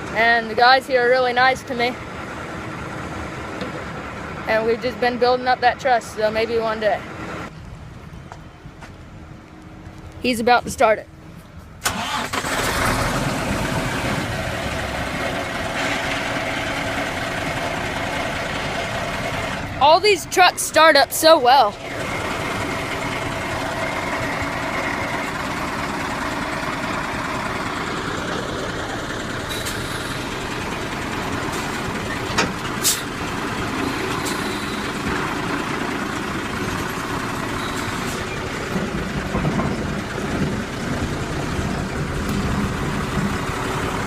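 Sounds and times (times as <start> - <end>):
truck engine running: 0.0 - 10.2, 11.1 - 44.0.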